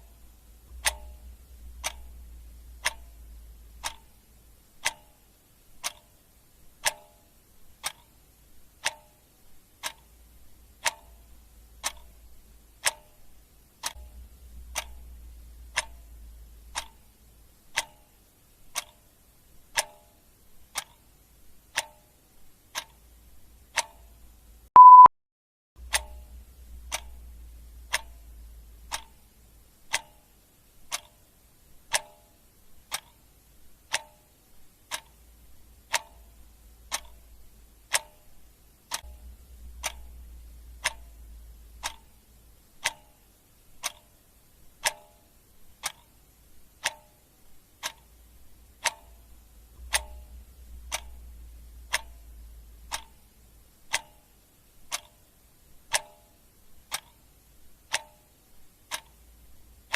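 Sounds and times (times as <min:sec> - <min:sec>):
clock ticking: 0:00.0 - 0:25.1, 0:25.8 - 0:59.9
faint low hum: 0:00.0 - 0:25.1, 0:25.8 - 0:59.9.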